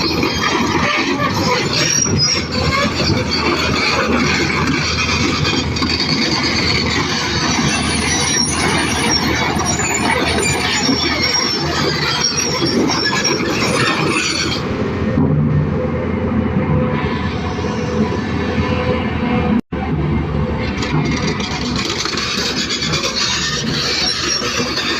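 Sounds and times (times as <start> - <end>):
crawler tracks squealing and clanking: 0.0 - 24.9
excavator engine: 0.0 - 24.9.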